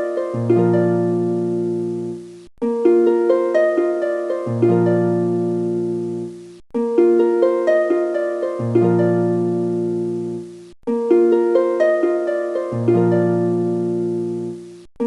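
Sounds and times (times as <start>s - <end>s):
plucked-string melody: 0.0s - 14.9s.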